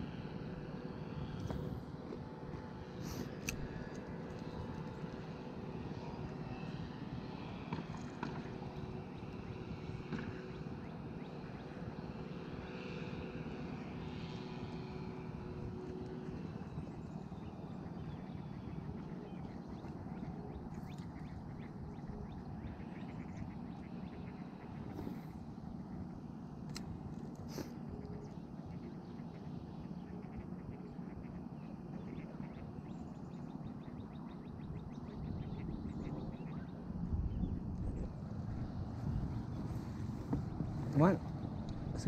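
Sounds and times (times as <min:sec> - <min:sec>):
faint droning hum: 0:00.0 - 0:42.0
low outdoor rumble: 0:00.0 - 0:42.0.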